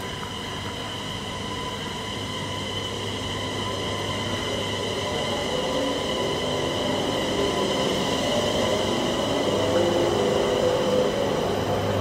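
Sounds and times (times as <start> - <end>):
electric train hum and whine: 0.0 - 12.0.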